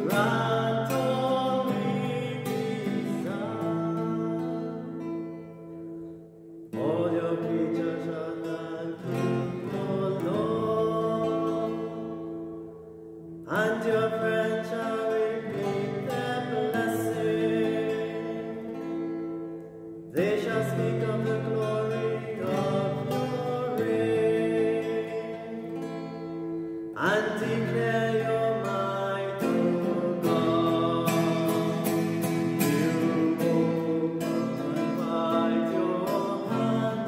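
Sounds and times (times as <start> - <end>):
man singing a chant: 0.0 - 4.8, 6.8 - 12.3, 13.5 - 18.8, 20.1 - 25.9, 27.0 - 37.0
guitar chords strummed: 0.0 - 37.0.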